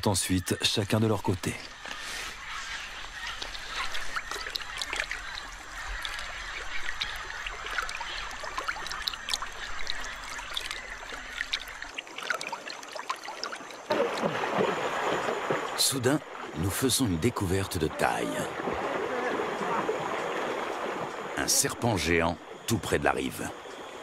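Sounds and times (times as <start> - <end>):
river water trickling and splashing: 0.0 - 24.0.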